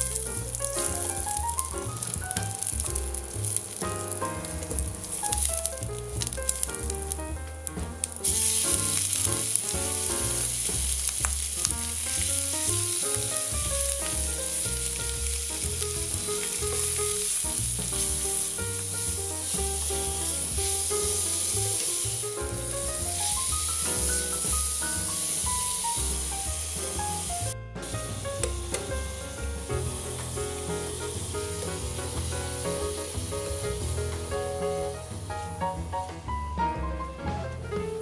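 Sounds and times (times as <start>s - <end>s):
food sizzling in frying pan: 0.0s - 6.9s, 8.1s - 28.5s, 29.8s - 33.7s
background music with bass line: 0.0s - 38.0s.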